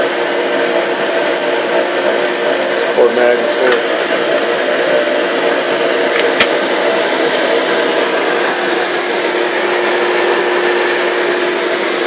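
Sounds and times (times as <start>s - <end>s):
dust collector air rush and hum: 0.0s - 12.0s.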